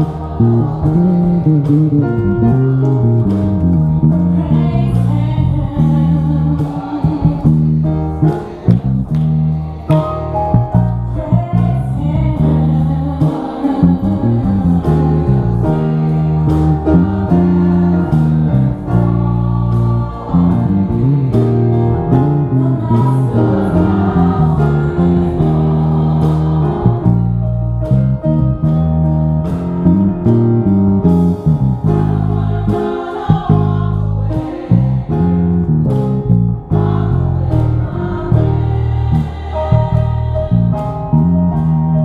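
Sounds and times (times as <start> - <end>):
choir singing gospel: 0.0 - 30.7, 31.4 - 42.0
electric bass line: 0.0 - 42.0.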